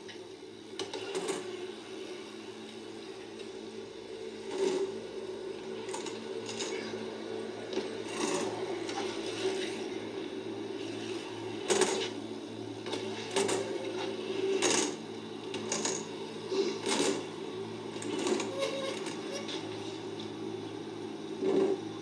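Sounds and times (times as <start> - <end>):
low tape hum: 0.0 - 22.0.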